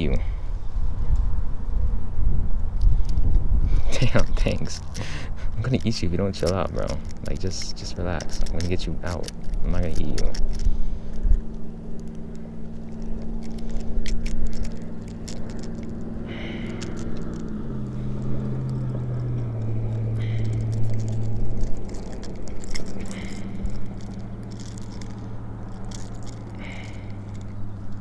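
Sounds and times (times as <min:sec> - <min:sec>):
engine humming: 0:00.0 - 0:28.0
fishing hooks clicking and rattling: 0:03.9 - 0:28.0
fish squirming: 0:04.5 - 0:28.0.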